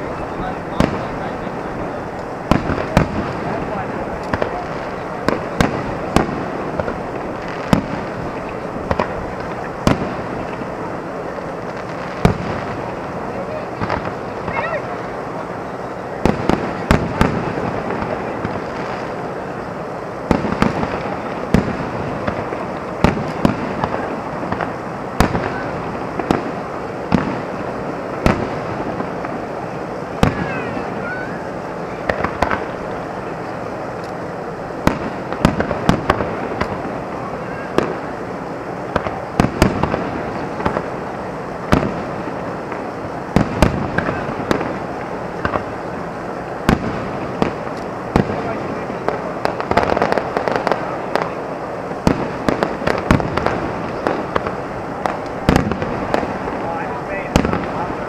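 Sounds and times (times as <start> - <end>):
fireworks shells bursting: 0.0 - 58.0
steady background noise: 0.0 - 58.0.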